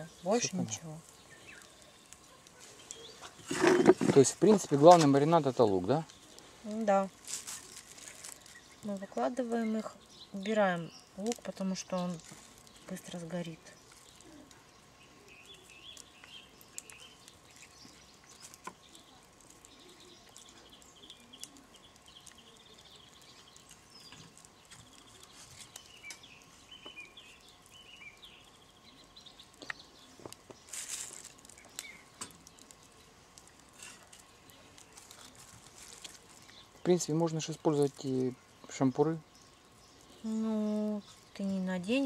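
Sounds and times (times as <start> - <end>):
birds twittering: 0.0 - 42.0.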